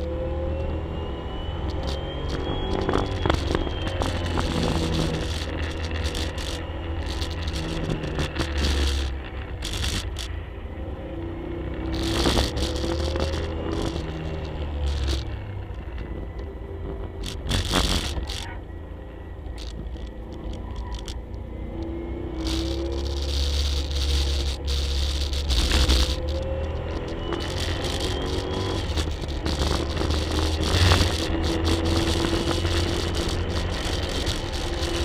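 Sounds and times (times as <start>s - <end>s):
car engine revving: 0.0s - 18.7s, 19.4s - 35.0s.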